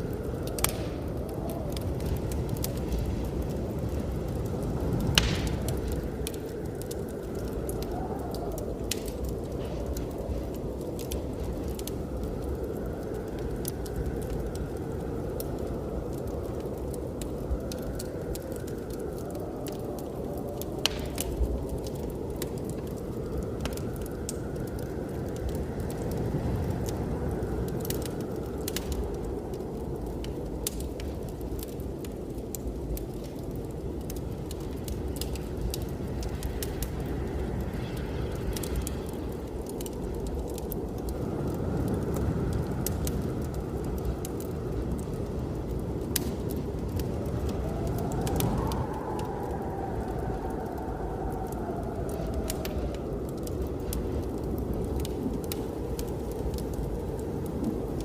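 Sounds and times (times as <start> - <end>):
blizzard wind rushing: 0.0 - 58.0
faint wind howl: 0.0 - 58.0
wood fire crackling and popping: 0.0 - 58.0.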